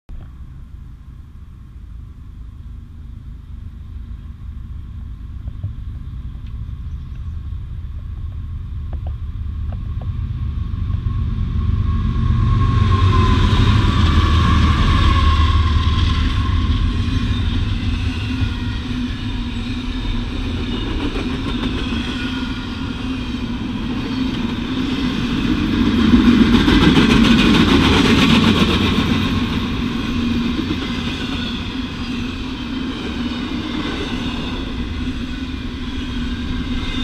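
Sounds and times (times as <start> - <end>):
freight train passing: 0.2 - 37.0.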